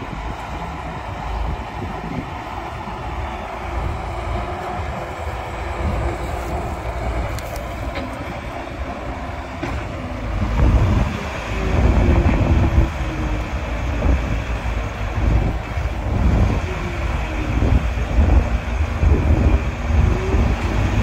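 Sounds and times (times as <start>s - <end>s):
diesel machinery rumbling: 0.0s - 21.0s.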